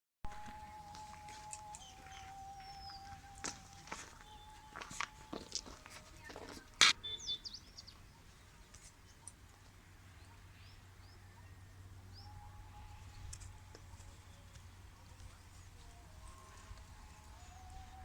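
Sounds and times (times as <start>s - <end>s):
small birds chirping: 0.3s - 18.0s.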